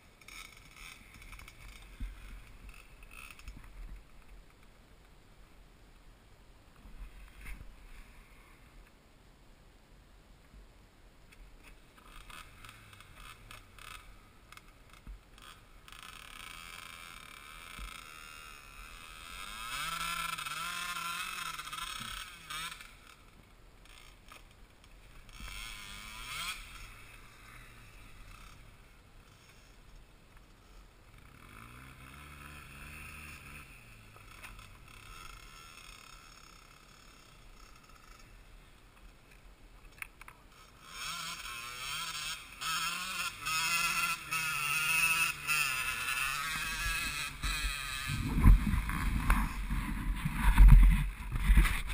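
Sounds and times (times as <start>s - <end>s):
quad engines idling and revving: 0.0s - 3.8s, 12.0s - 39.1s, 40.2s - 51.9s.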